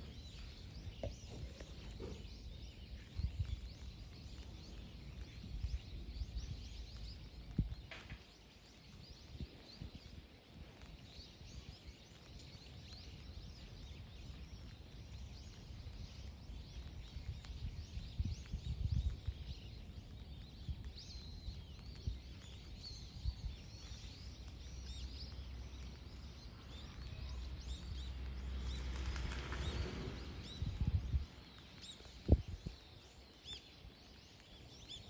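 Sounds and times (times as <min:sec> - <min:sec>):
low outdoor rumble: 0:00.0 - 0:33.2
small birds chirping: 0:00.0 - 0:35.0.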